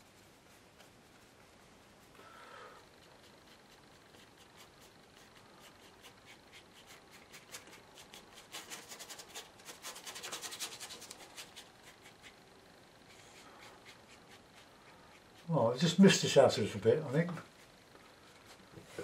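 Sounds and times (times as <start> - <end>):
brush scrubbing paint on paper: 0.0 - 2.2, 2.8 - 12.4, 13.0 - 16.4, 17.5 - 19.0.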